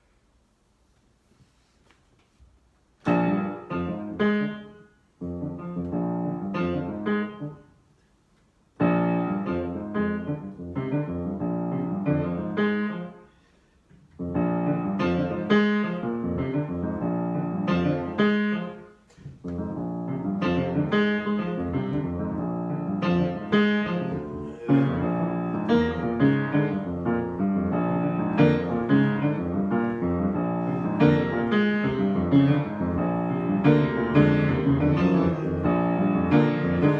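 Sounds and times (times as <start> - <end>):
solo piano: 3.0 - 13.4, 14.0 - 36.9.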